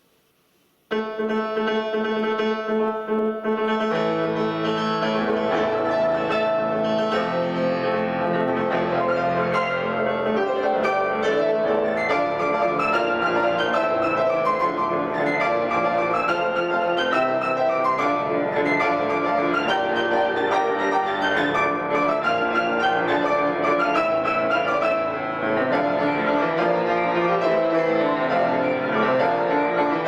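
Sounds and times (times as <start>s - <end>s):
piano: 0.0s - 30.0s.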